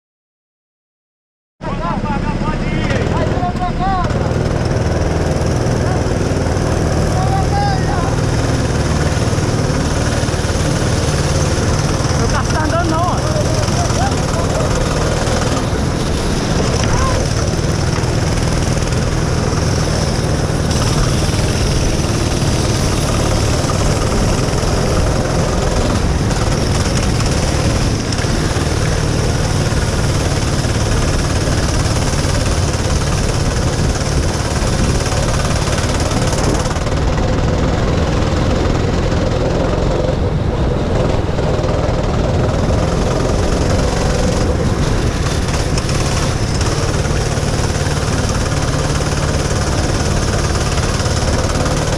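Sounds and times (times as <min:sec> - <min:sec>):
go-kart engine running: 0:01.7 - 0:51.9
wind rushing: 0:03.0 - 0:51.7.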